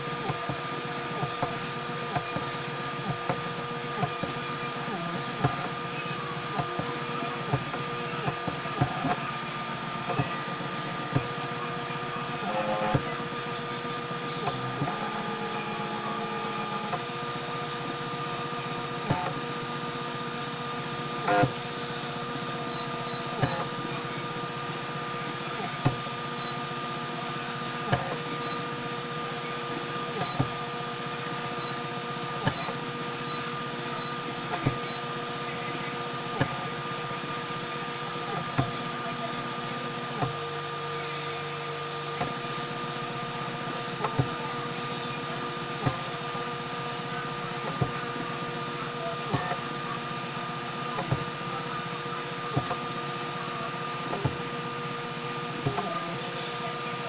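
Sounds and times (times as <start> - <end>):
stepper motors whining: 0.0 - 57.0.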